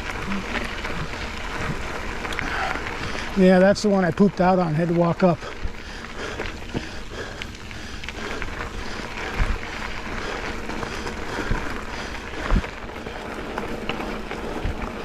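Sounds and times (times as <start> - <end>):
wind and tyre noise on gravel: 0.0 - 15.0.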